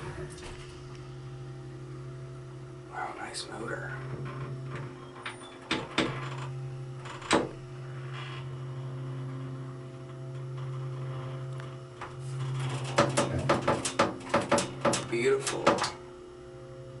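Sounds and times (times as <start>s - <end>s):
elevator pump motor humming: 0.0s - 17.0s.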